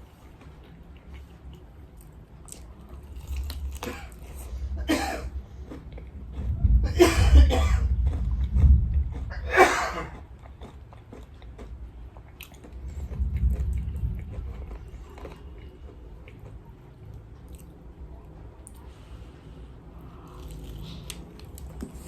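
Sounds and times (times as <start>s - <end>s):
chewing crispy fried chicken: 0.0s - 4.6s, 5.4s - 6.6s, 7.9s - 19.1s, 19.9s - 22.0s.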